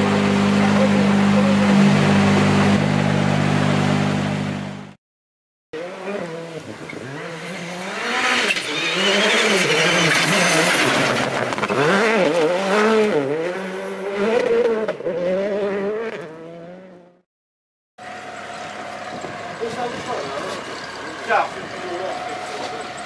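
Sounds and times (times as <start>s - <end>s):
rally car engine revving: 0.0s - 5.0s, 5.8s - 17.2s, 18.1s - 23.0s.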